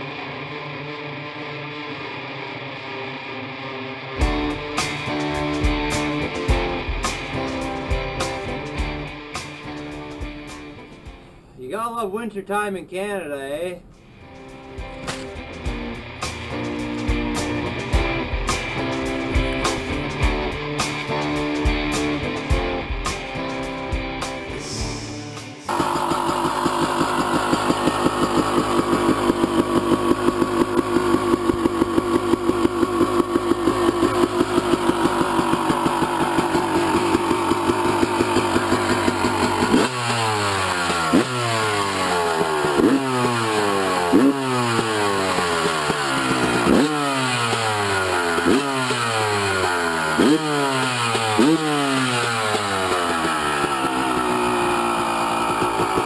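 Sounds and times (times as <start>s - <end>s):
two-stroke motorcycle engine revving: 4.2s - 10.6s, 14.8s - 56.0s.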